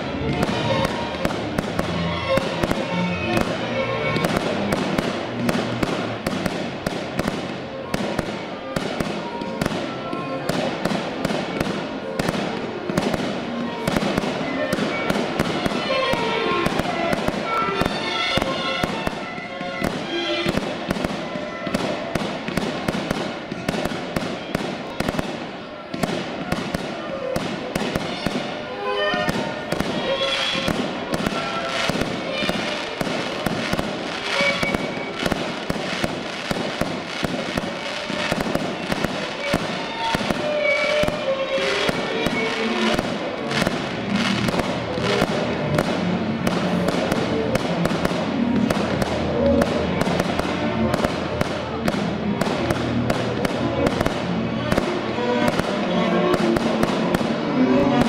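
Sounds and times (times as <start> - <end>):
fireworks bangs and crackles: 0.0 - 58.0
music: 0.0 - 58.0.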